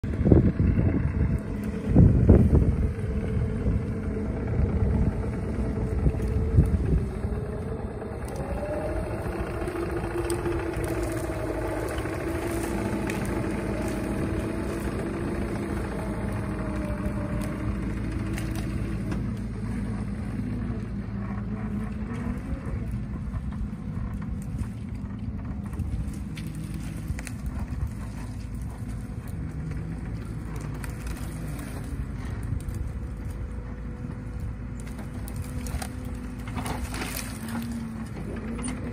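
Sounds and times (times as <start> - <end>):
excavator diesel engine running: 0.0 - 38.9
wood cracking: 0.0 - 38.9.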